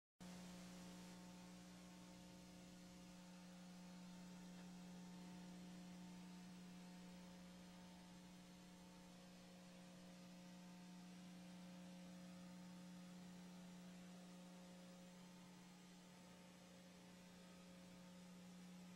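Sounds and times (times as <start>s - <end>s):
faint electrical hum: 0.2s - 18.9s.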